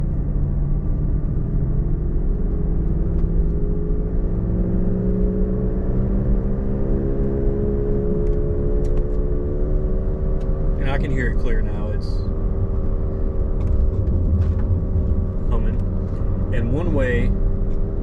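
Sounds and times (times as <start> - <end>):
low road rumble: 0.0 - 18.0.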